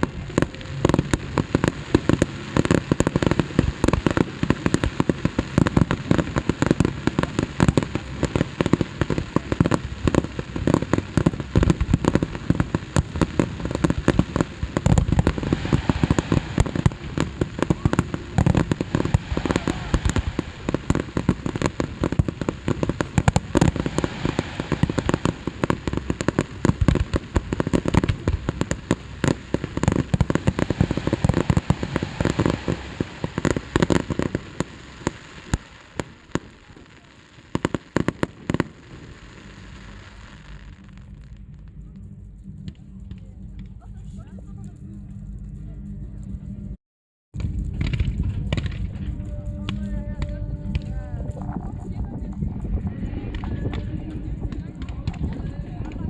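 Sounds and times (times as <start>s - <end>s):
fireworks bangs and crackling: 0.0s - 44.7s, 47.4s - 56.0s.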